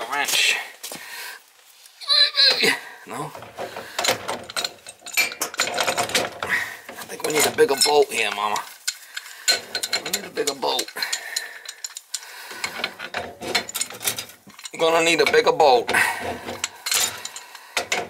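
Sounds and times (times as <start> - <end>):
wrench clinking on metal pipes: 3.4 - 18.0.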